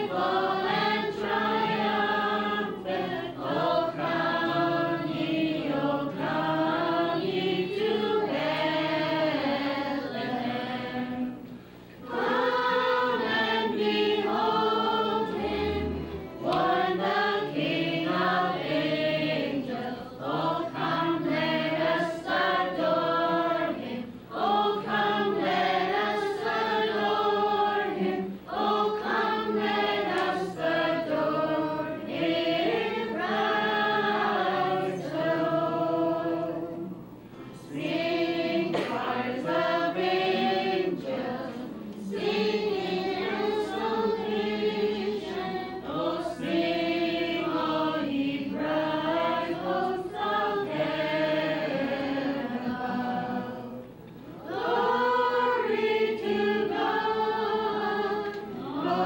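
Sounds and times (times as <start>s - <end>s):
group singing a carol: 0.0s - 59.0s.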